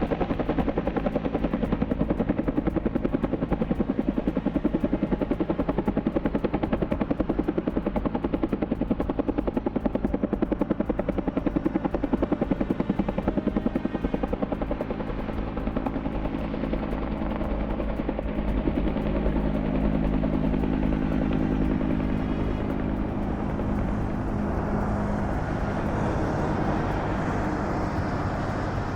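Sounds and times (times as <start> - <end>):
helicopter engine tone: 0.0 - 28.9
helicopter rotor beating: 0.0 - 28.9.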